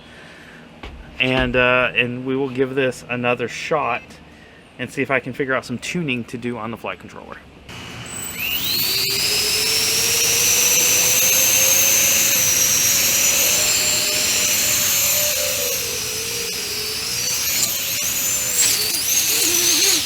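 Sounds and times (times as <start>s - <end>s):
electric fans high whine: 0.0s - 20.0s.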